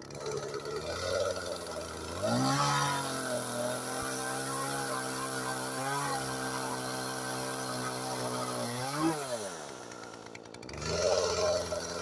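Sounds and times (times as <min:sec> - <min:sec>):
two-stroke chainsaw engine revving: 0:00.0 - 0:12.0.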